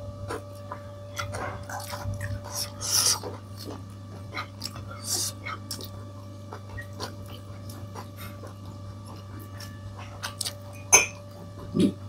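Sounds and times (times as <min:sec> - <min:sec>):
steady low hum: 0:00.0 - 0:12.0
soft chewing: 0:00.2 - 0:10.7.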